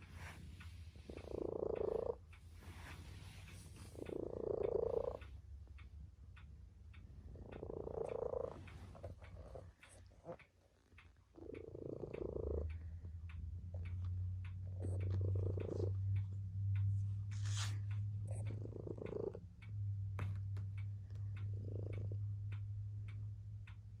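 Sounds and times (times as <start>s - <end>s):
cat purring: 0.0s - 5.9s, 6.9s - 23.2s.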